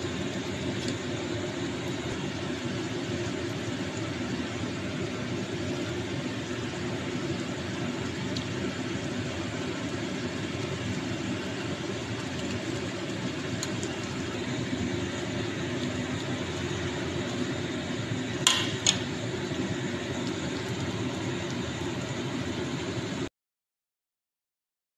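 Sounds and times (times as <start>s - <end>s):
soup boiling hiss: 0.0s - 23.3s.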